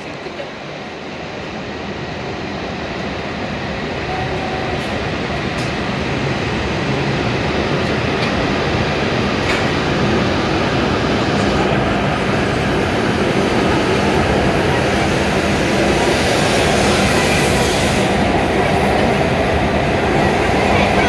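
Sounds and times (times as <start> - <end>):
train pulling out: 0.0 - 21.0.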